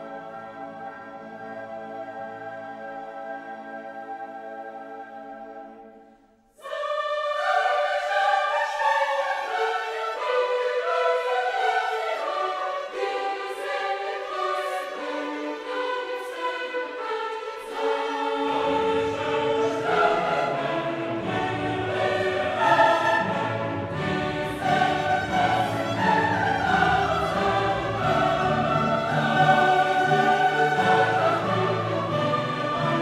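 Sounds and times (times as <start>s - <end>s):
choral singing with orchestra: 0.0s - 33.0s.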